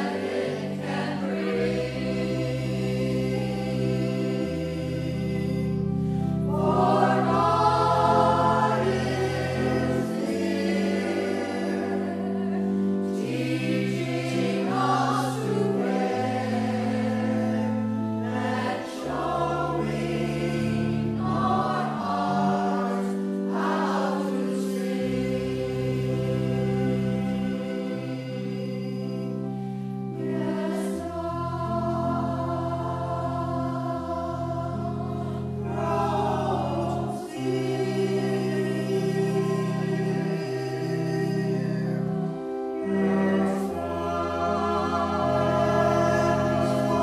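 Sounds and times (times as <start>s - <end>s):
sustained low chords: 0.0s - 47.0s
voices singing a slow hymn: 0.0s - 47.0s.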